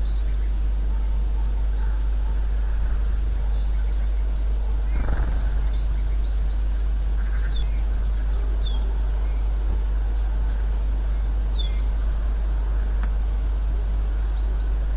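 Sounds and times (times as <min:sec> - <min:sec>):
small birds chirping: 0:00.0 - 0:14.9
steady low rumble: 0:00.0 - 0:14.9.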